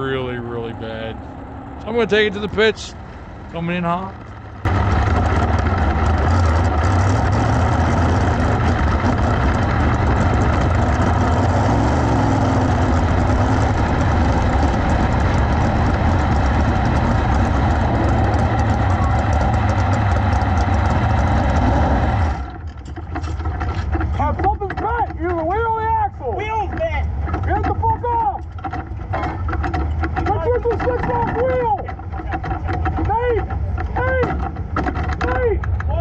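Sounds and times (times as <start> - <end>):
race car engine at low revs: 0.0 - 36.0.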